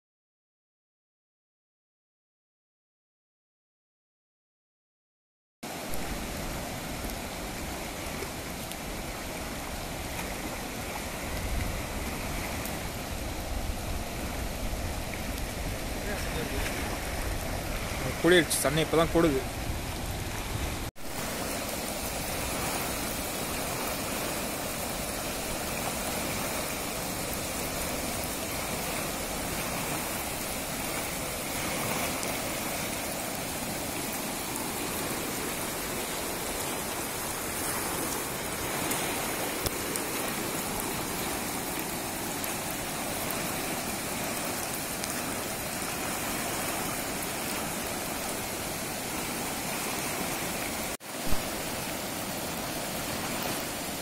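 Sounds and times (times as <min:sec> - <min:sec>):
floodwater rushing over rocks: 0:05.6 - 0:54.0.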